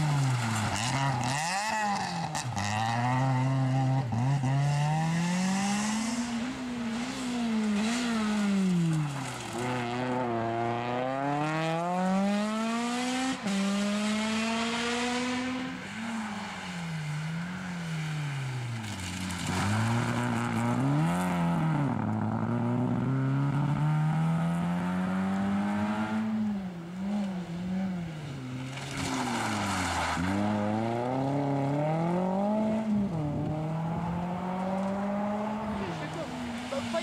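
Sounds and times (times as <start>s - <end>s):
rally cars passing at speed: 0.0s - 37.0s.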